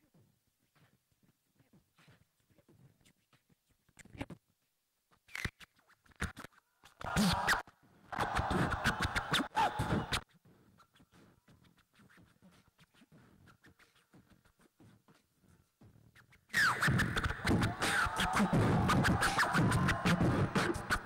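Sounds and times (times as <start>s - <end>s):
beatboxing into a microphone: 0.0s - 4.5s, 5.1s - 21.0s.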